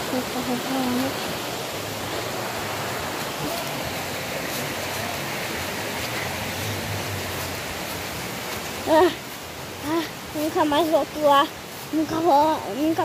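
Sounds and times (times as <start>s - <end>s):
flowing stream water: 0.0s - 13.0s.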